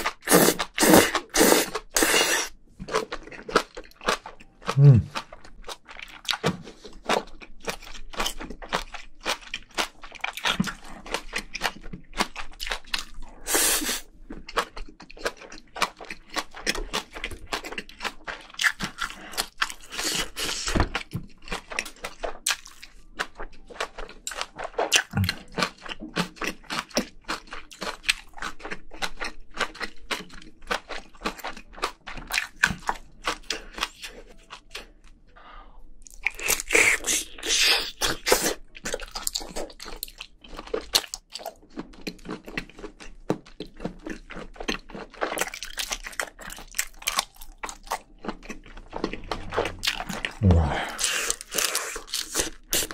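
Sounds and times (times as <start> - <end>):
chewing with wet clicks and crunches: 0.0 - 2.1, 2.7 - 35.3, 35.9 - 52.9.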